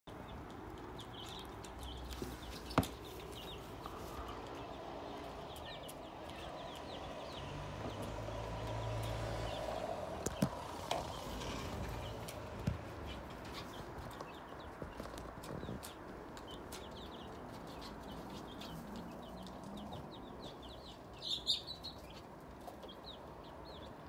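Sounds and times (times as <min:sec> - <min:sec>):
chicks peeping: 0:00.1 - 0:24.0.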